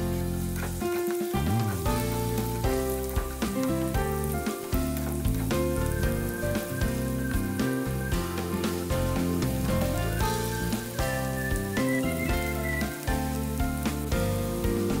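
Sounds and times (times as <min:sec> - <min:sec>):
background music: 0:00.0 - 0:15.0
food sizzling in hot pan: 0:00.0 - 0:15.0.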